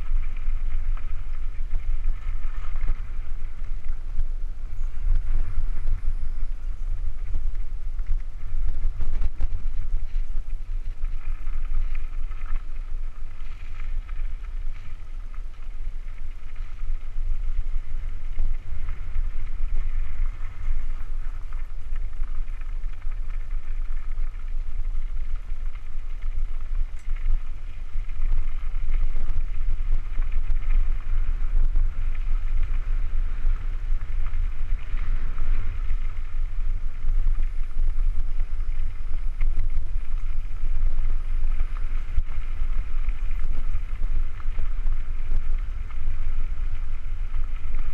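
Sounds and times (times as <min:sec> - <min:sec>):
bike tyres crunching on gravel: 0:00.0 - 0:47.9
wind buffeting microphone: 0:00.0 - 0:47.9.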